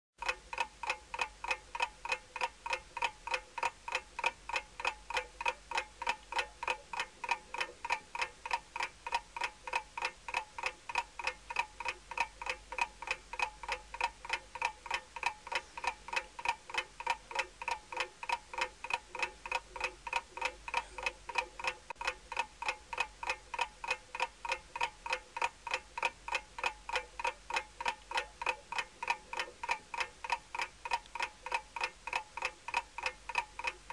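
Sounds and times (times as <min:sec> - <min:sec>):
mechanical clock ticking: 0:00.2 - 0:33.9.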